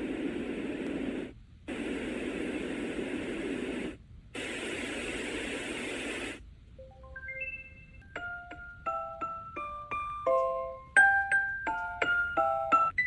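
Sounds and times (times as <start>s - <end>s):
white noise machine hiss: 0.0s - 13.0s.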